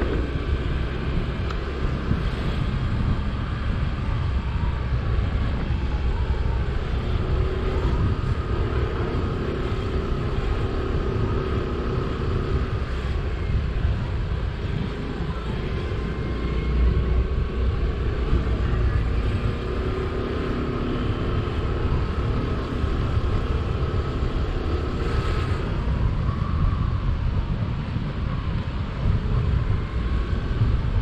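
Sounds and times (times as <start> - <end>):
faint whine: 0.0 - 31.0
wind and road noise: 0.0 - 31.0.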